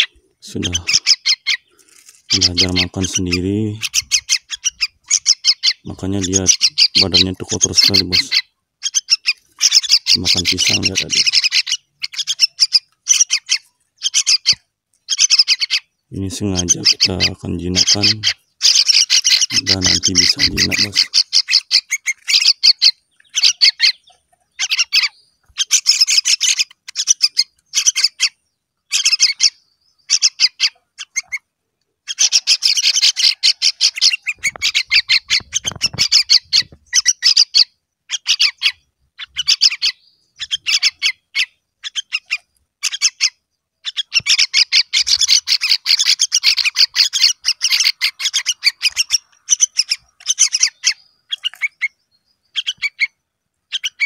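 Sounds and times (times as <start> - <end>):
fledgling birds begging calls: 0.0 - 54.0.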